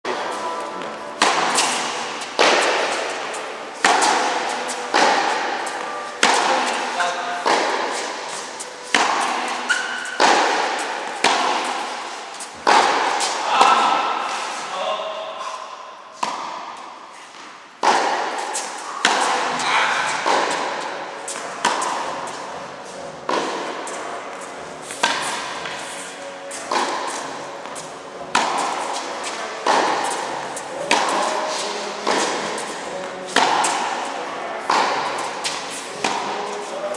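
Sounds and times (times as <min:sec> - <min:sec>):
tennis ball hit by rackets: 0:00.2 - 0:14.6, 0:16.2 - 0:36.9.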